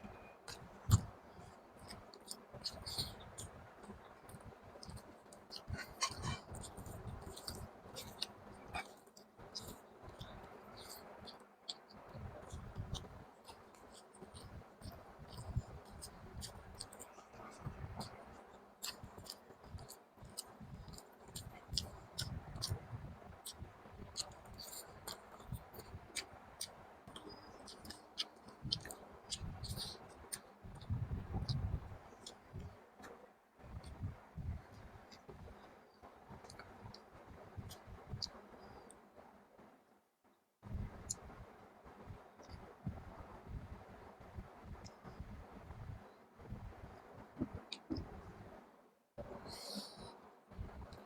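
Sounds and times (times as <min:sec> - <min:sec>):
wet chewing and mouth sounds: 0:00.2 - 0:39.0, 0:40.7 - 0:48.6.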